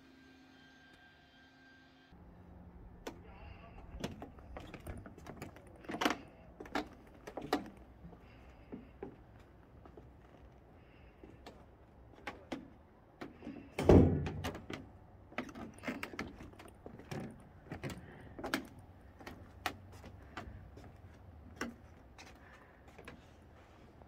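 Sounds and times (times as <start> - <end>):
footsteps on wooden deck: 3.9 - 24.0.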